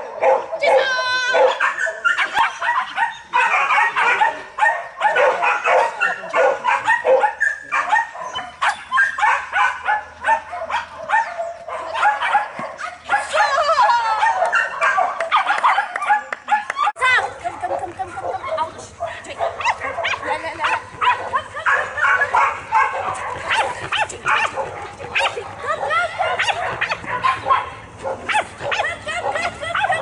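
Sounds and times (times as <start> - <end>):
dog barking in high yips: 0.1 - 17.4, 19.4 - 30.0
dog whining yelps: 0.2 - 17.0, 19.6 - 30.0.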